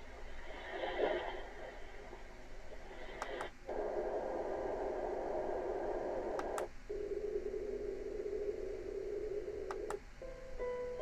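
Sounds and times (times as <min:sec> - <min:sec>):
steady rushing noise from speaker: 0:00.0 - 0:11.0.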